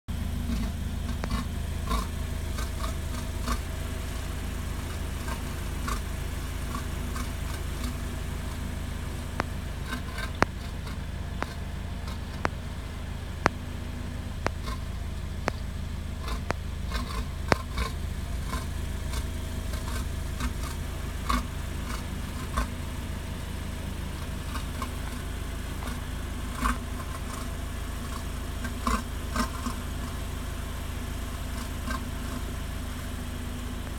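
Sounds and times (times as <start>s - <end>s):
car exhaust idling hum: 0.0s - 33.9s
sharp ticks and clicks: 0.4s - 12.7s, 14.4s - 22.8s, 24.2s - 30.3s, 31.5s - 32.5s.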